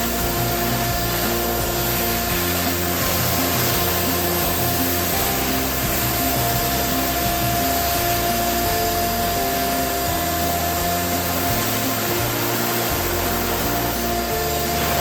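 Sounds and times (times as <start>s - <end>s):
electric balloon pump blowing air: 0.0s - 15.0s.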